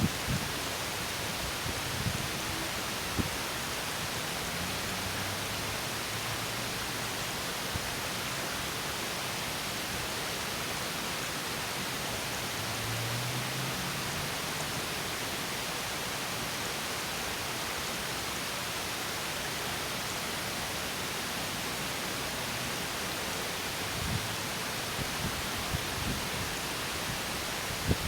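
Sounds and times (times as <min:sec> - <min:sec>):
stream water rushing over waterfall: 0:00.0 - 0:28.0.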